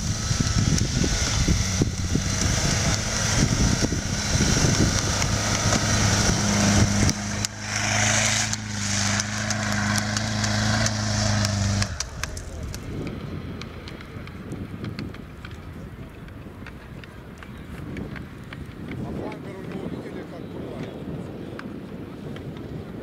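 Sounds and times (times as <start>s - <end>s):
car engine running under load: 0.0s - 19.9s.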